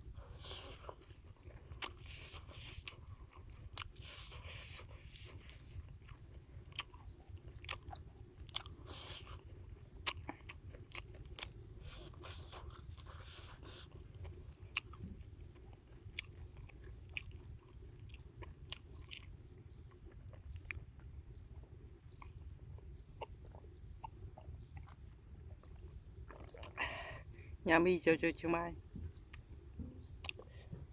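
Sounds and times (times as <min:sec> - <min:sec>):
person crunching and chewing food: 0:00.0 - 0:27.6, 0:29.2 - 0:30.8.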